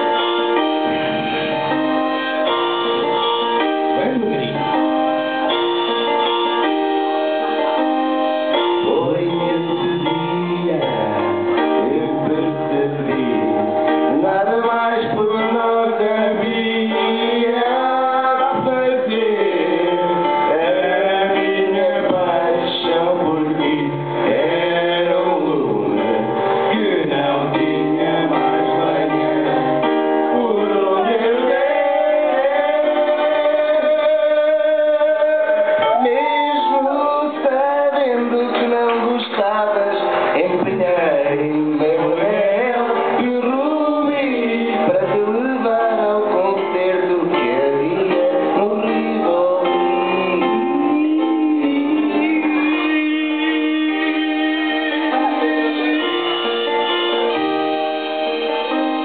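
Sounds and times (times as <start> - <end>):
karaoke backing track: 0.0 - 59.0
men singing into microphones: 8.5 - 59.0.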